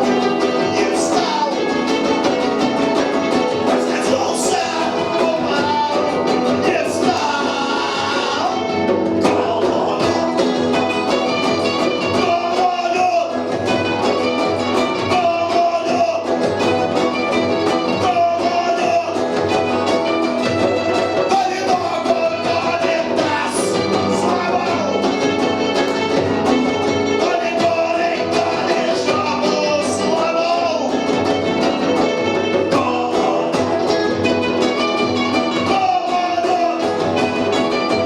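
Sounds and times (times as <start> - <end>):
person singing: 0.0 - 38.0
punk band playing live: 0.0 - 38.0.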